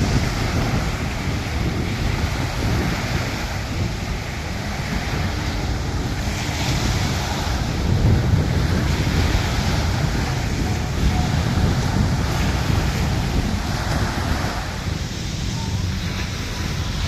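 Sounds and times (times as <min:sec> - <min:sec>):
surf washing on beach: 0:00.0 - 0:17.0
wind buffeting microphone: 0:00.0 - 0:17.0.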